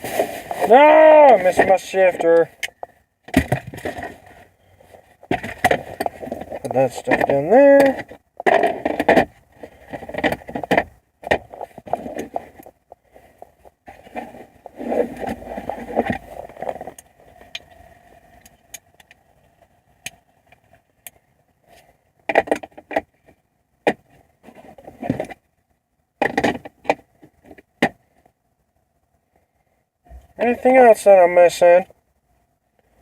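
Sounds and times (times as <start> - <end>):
rustling and scraping of parts: 0.0 - 25.6, 26.2 - 28.4.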